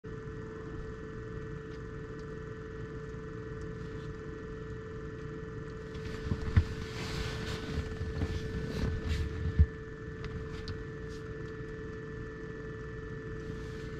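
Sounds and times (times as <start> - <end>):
small motor humming: 1.2 - 13.9.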